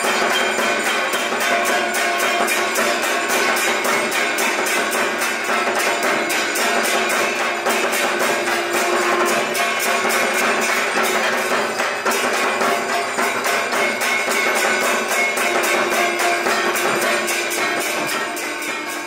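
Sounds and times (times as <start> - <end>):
hand bells ringing: 0.0 - 19.0
metallic jingling: 0.0 - 19.0
rapid percussion: 0.0 - 19.0.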